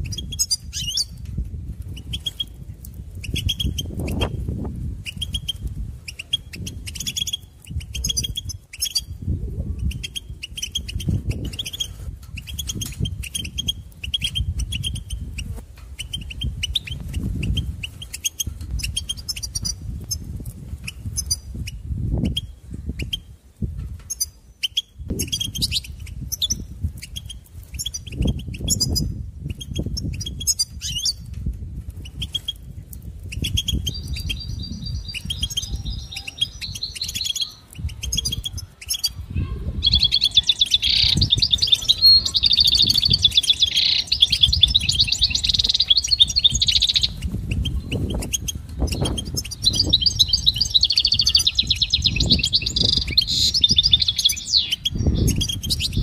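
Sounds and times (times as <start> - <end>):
finch chirping and twittering: 0.0 - 56.0.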